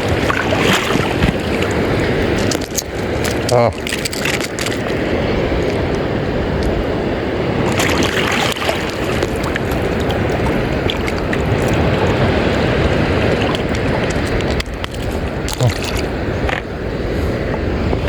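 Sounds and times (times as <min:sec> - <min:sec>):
sea water rushing: 0:00.0 - 0:18.0.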